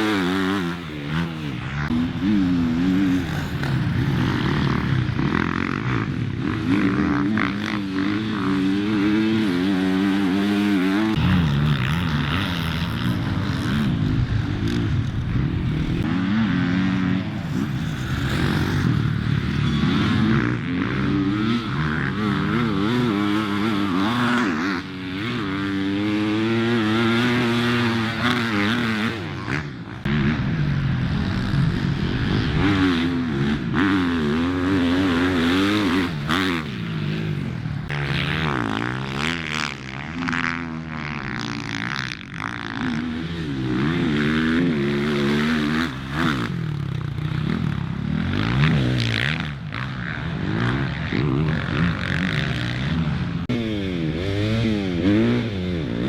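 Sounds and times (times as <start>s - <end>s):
off-road engines revving: 0.0s - 56.0s.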